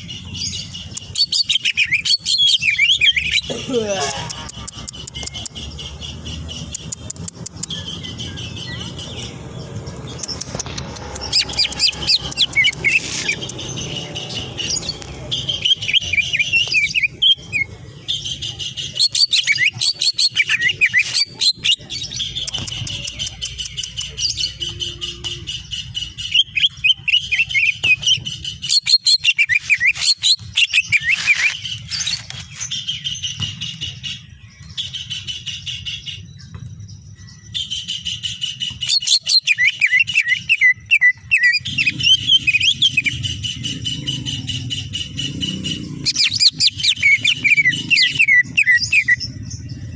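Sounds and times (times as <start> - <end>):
bird singing: 0.0 - 49.9.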